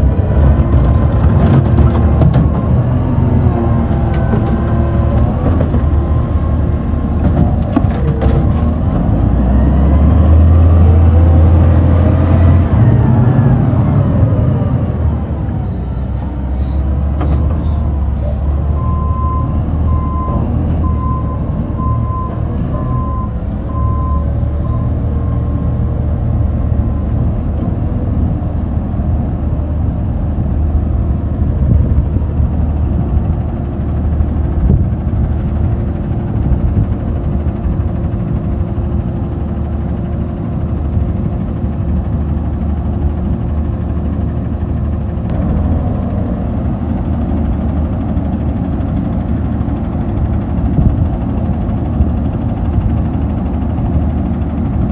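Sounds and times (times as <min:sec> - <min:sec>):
truck engine rumbling: 0:00.0 - 0:54.9.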